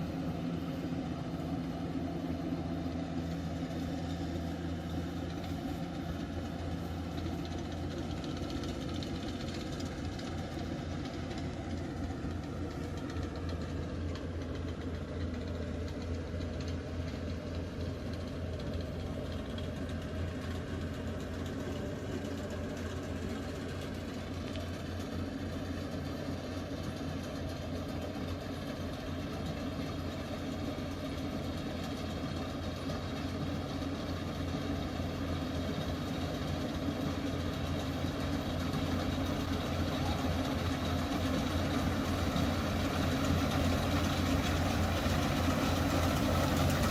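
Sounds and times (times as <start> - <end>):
harvesting machine engine humming: 0.0 - 46.9.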